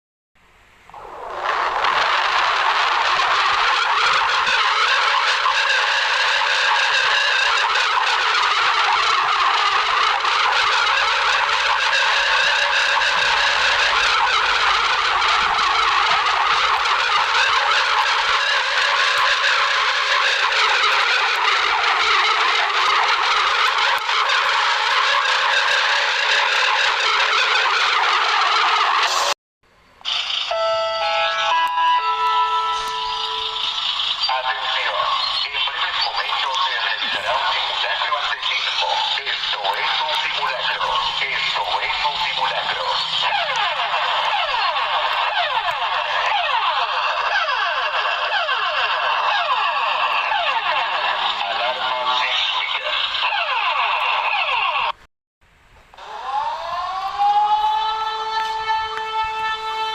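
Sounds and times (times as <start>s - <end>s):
wavering emergency alarm siren: 0.9s - 29.4s, 30.0s - 54.9s, 56.0s - 59.9s.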